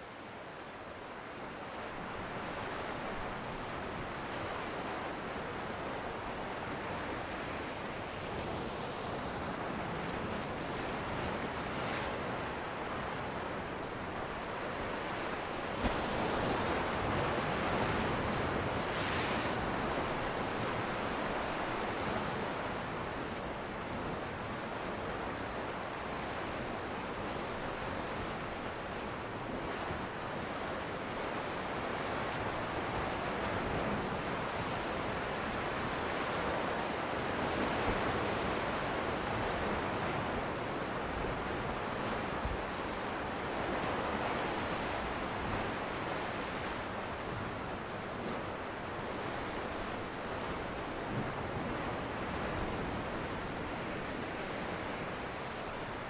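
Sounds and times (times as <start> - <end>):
waves breaking on rocky shore: 1.9 - 56.0.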